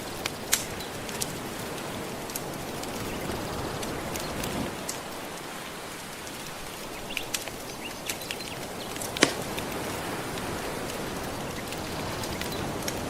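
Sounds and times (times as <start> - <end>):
soft ocean waves: 0.0 - 13.0
wood fire crackling: 0.0 - 13.0.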